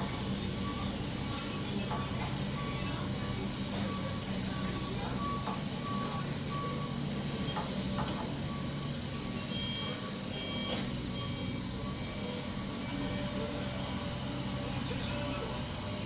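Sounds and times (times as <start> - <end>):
diesel engine running: 0.0 - 16.0
reversing alarm beeping: 0.3 - 16.0.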